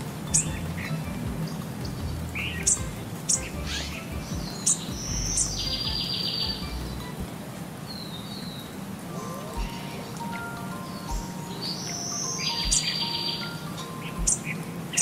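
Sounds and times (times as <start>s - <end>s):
birds chirping: 0.0s - 15.0s
buzzy bird trill: 0.3s - 7.2s, 9.3s - 15.0s.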